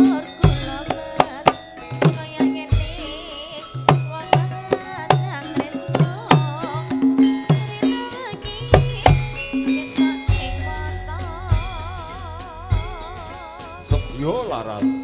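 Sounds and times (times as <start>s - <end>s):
hand drum strikes: 0.0s - 13.3s
held metallophone tones: 0.0s - 15.0s
person singing wavering melody: 0.0s - 15.0s.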